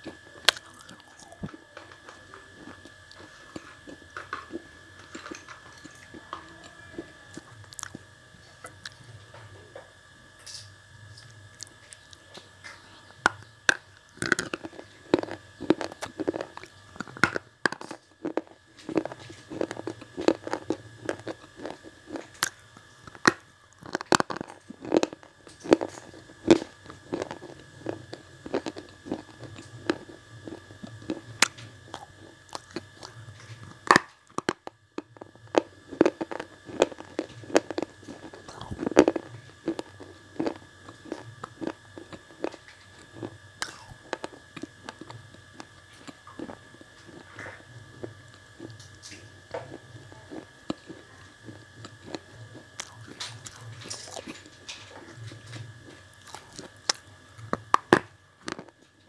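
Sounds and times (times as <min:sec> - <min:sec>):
brittle crunching of chewing: 0:00.0 - 0:59.0.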